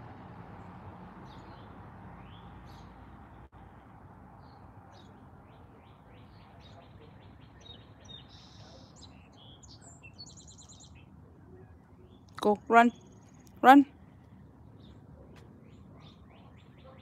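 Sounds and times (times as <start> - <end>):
outdoor background noise: 0.0 - 17.0
small birds chirping: 0.6 - 17.0.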